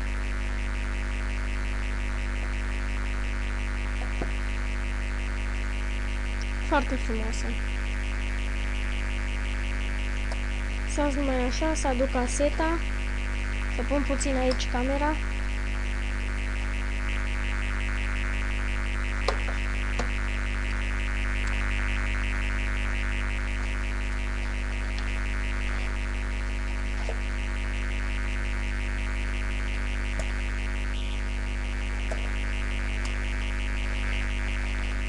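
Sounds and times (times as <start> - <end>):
fast throbbing buzz: 0.0 - 35.0
humming drone: 0.0 - 35.0.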